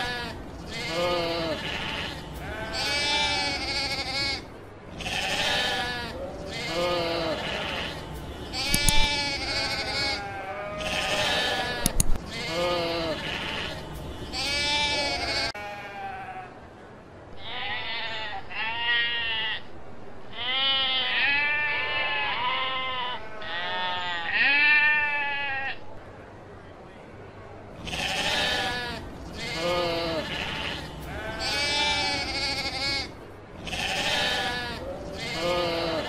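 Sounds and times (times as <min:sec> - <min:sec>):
sheep bleating: 0:00.0 - 0:16.5, 0:20.4 - 0:25.8, 0:27.8 - 0:36.0.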